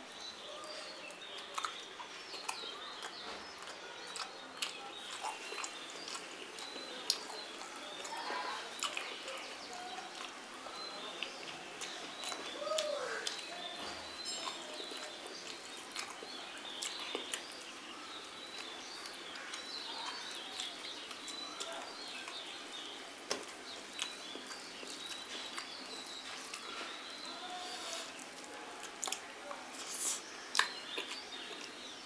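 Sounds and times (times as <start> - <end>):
birds chirping: 0.0 - 32.0
eating sounds: 0.2 - 32.0.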